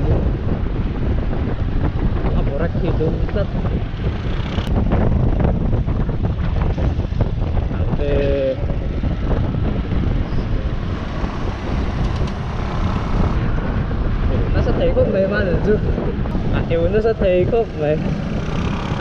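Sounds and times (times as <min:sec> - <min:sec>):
scooter engine and tyre noise: 0:00.0 - 0:19.0
wind buffeting microphone: 0:00.0 - 0:19.0.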